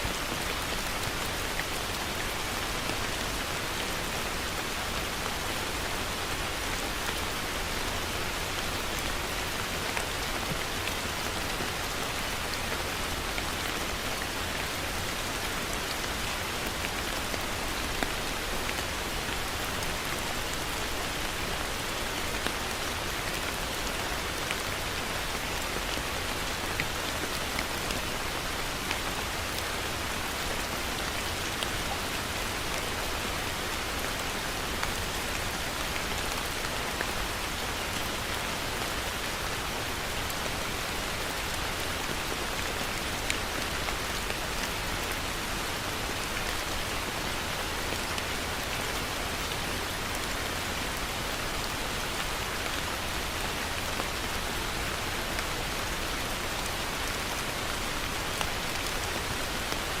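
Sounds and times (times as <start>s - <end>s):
heavy rain: 0.0s - 60.0s.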